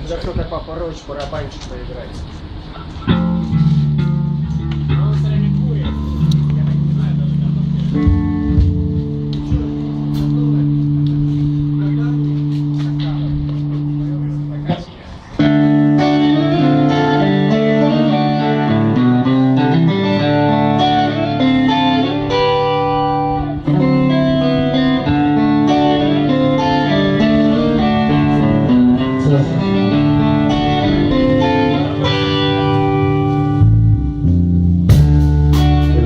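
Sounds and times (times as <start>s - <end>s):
electric guitar sustained notes: 2.6s - 36.0s.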